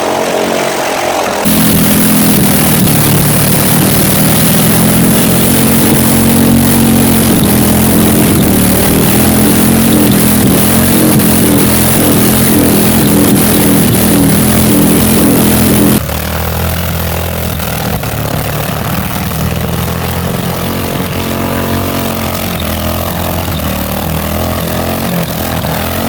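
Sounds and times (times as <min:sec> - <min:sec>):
engine running hard: 0:00.0 - 0:26.0.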